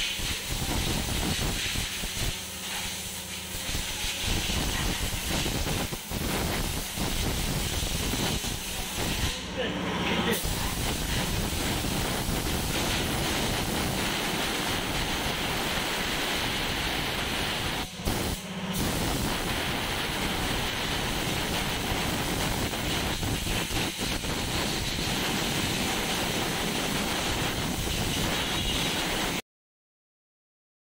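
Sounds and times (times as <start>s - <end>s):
steady loud hissing noise: 0.0s - 29.4s.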